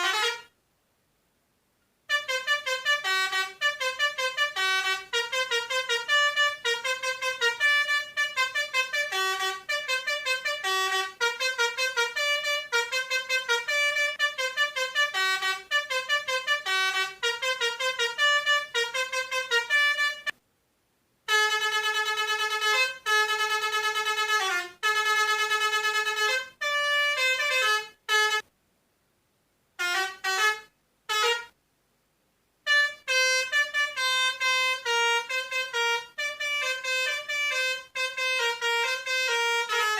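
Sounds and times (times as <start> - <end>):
toy pianika playing horn tunes: 0.0 - 0.5, 2.1 - 20.4, 21.3 - 28.5, 29.8 - 31.6, 32.6 - 39.9.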